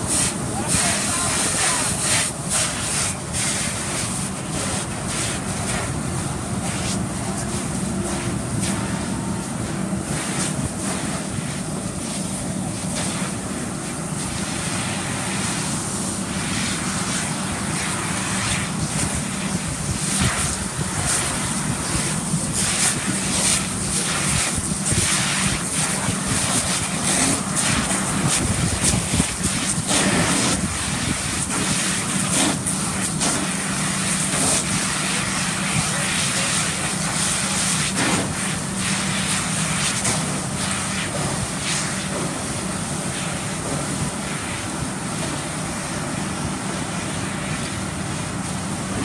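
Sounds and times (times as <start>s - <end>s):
fire hose spraying: 0.0s - 49.0s.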